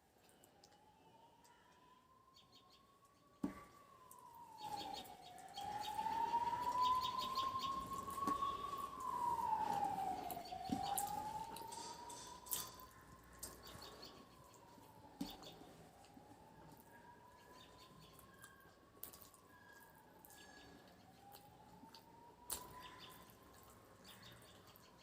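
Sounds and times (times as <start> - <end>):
emergency vehicle siren wailing: 0.0 - 25.0.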